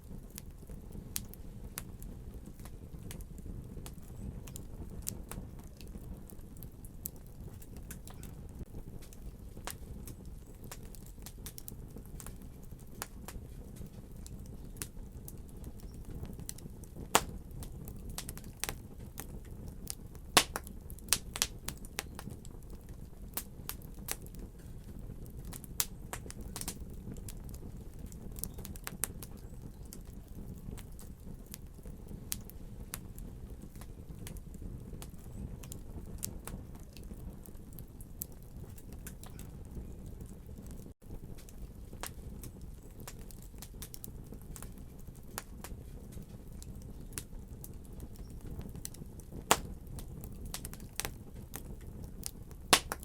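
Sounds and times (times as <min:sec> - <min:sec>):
fire crackling and popping: 0:00.0 - 0:53.0
low rumble of flames: 0:00.0 - 0:53.0.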